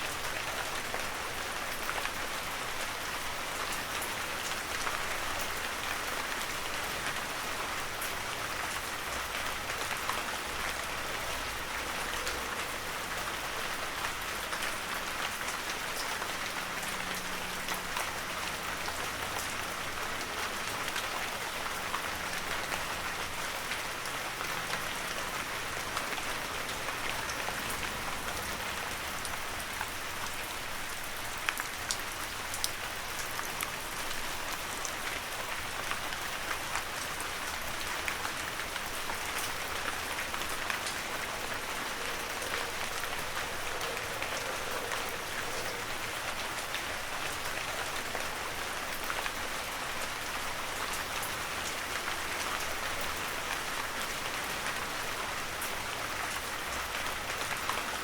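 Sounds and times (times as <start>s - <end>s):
heavy rain on forest: 0.0s - 58.0s.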